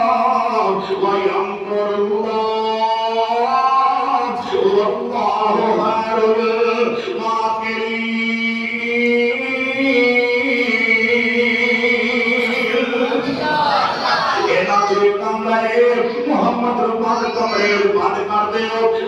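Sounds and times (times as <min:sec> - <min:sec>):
man chanting melodic recitation: 0:00.0 - 0:13.4, 0:14.3 - 0:19.0.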